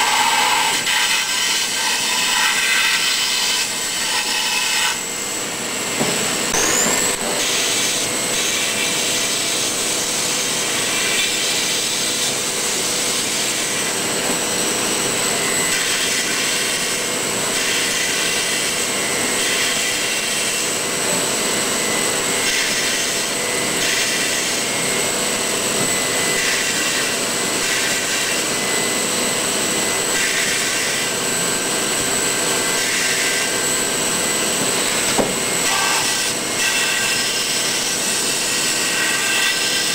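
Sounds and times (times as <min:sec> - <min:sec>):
hissing foam cutting: 0:00.0 - 0:28.9, 0:32.0 - 0:39.9
milling spindle high whine: 0:00.0 - 0:39.9.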